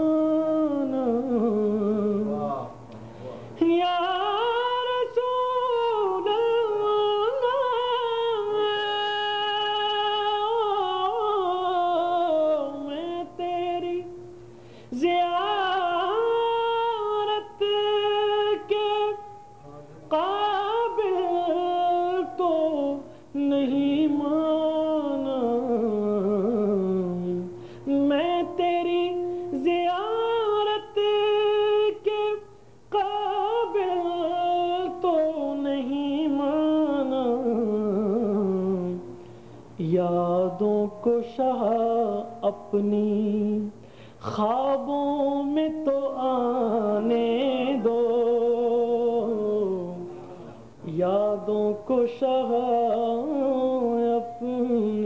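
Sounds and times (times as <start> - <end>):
man singing devotional song: 0.0 - 55.0.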